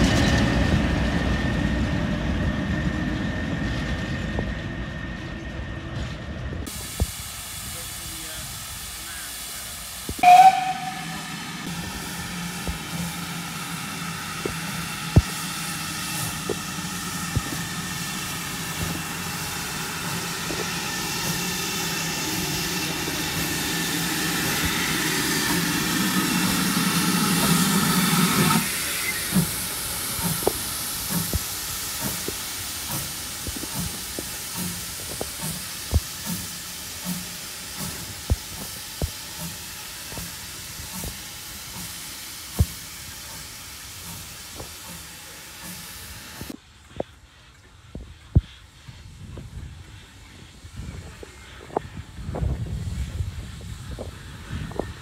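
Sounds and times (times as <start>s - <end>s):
steam locomotive hissing: 2.2s - 55.0s.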